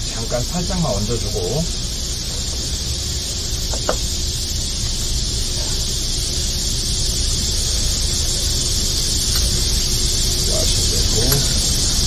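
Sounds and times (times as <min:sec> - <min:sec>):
low outdoor rumble: 0:00.0 - 0:12.0
steady high hiss: 0:00.0 - 0:12.0.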